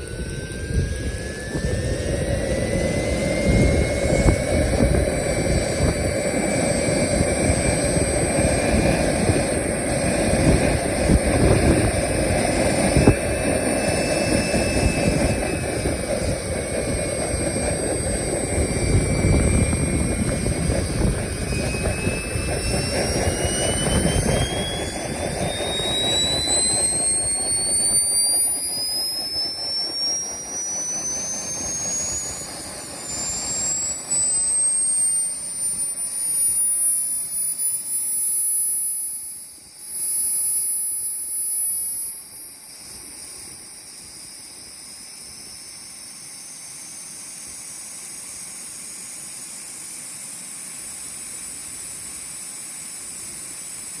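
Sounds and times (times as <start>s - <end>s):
turbine whine rising in pitch: 0.0s - 54.0s.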